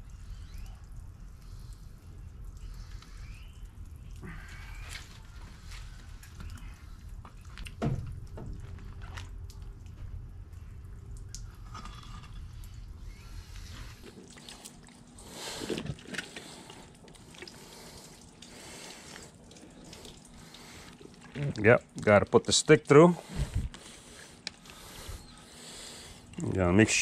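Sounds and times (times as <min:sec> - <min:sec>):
wet dripping handling noises: 0:00.0 - 0:27.0.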